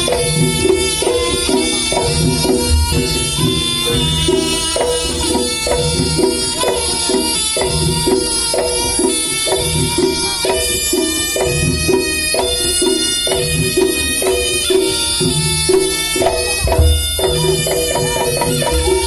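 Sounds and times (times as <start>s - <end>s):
drums keeping a steady beat: 0.0s - 19.0s
reedy wind instrument melody: 0.0s - 19.0s.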